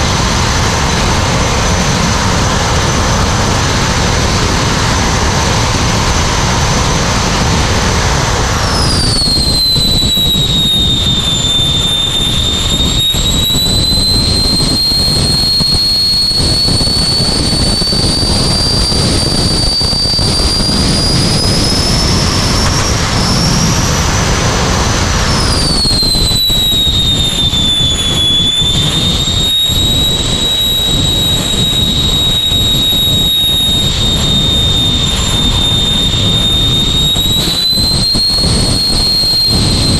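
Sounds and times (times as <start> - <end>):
turbine engine high whine: 0.0 - 39.9.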